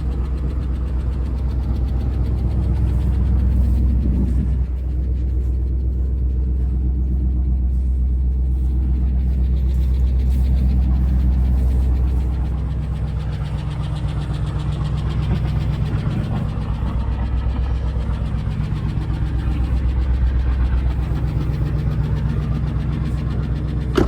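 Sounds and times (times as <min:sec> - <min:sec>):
pickup engine idling: 0:00.0 - 0:24.0.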